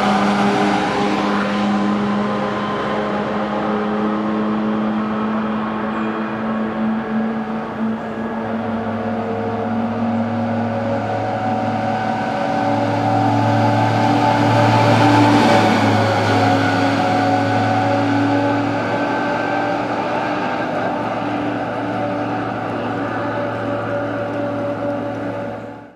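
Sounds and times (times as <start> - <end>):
diesel truck engine passing: 0.0 - 25.9.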